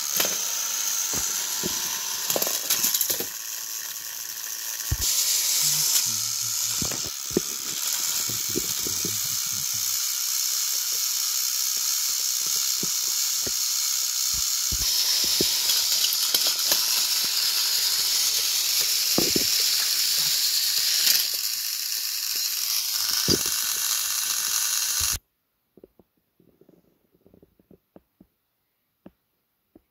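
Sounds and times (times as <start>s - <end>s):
toy train motors whirring: 0.0s - 25.2s.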